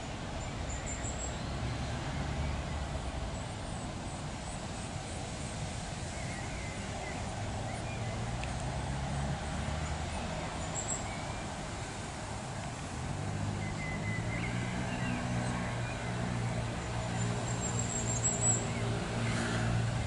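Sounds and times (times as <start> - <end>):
vehicle engine humming: 1.1 - 20.0.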